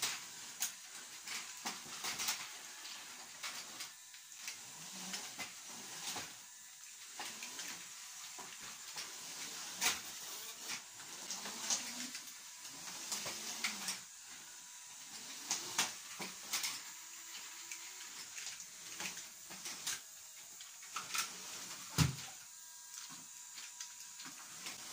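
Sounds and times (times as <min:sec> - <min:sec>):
small electric motors whirring: 0:00.0 - 0:24.9.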